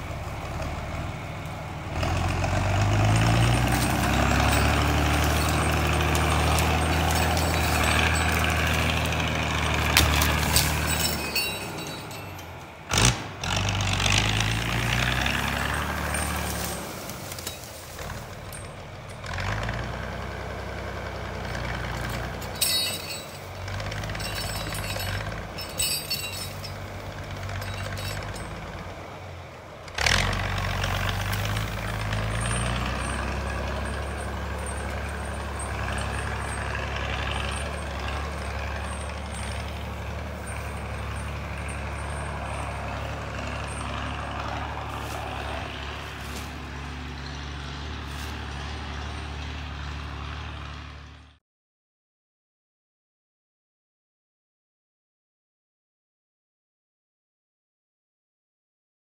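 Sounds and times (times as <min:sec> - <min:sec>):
engine revving: 0:00.0 - 0:51.4.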